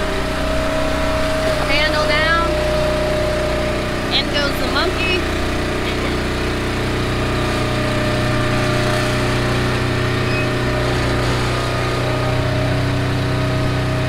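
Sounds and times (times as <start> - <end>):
hydraulic press motor humming: 0.0 - 14.0.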